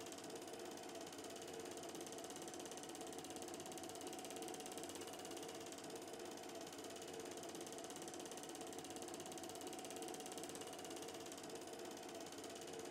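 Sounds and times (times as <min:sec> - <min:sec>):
film projector clattering: 0:00.0 - 0:12.9.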